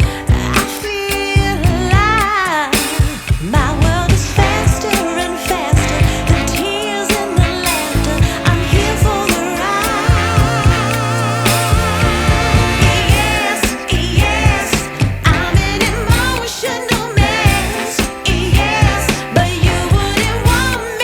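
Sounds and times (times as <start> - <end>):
bass and steady beat: 0.0 - 0.8, 1.4 - 2.5, 3.3 - 5.0, 5.7 - 20.9
singing voice with vibrato: 0.0 - 21.0.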